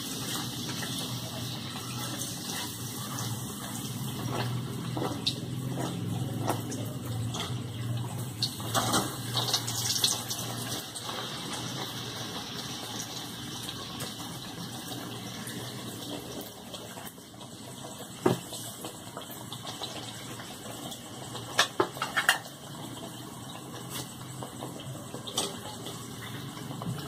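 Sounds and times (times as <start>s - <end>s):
food deep-frying in hot oil: 0.0s - 27.0s
oil crackles and clicks: 0.0s - 27.0s.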